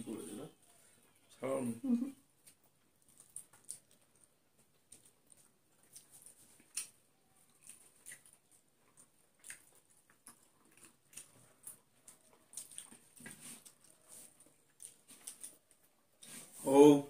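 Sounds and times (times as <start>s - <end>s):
chewing: 2.4s - 16.5s.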